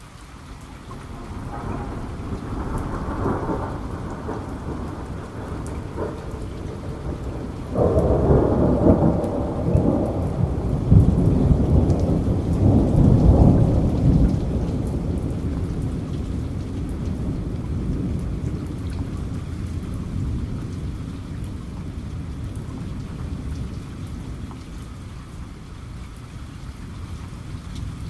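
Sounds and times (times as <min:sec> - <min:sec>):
steady rain: 0:00.0 - 0:28.0
low rumble of thunder: 0:00.4 - 0:28.0.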